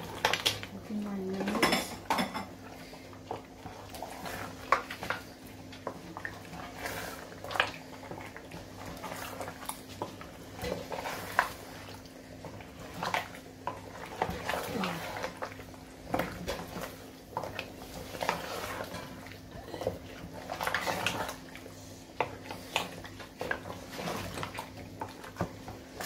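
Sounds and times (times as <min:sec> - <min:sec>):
wooden spoon stirring in pot: 0:00.0 - 0:26.0.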